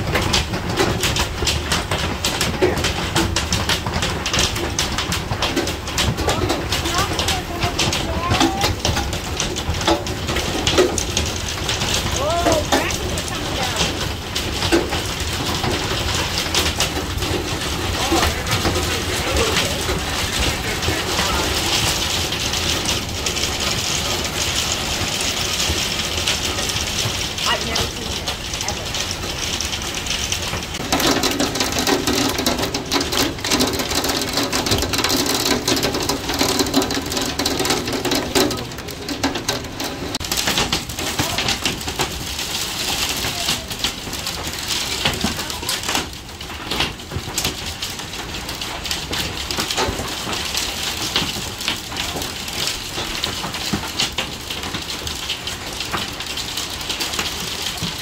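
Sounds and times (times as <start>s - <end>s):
hail clattering on deck: 0.0s - 58.0s
rain rushing: 0.0s - 58.0s.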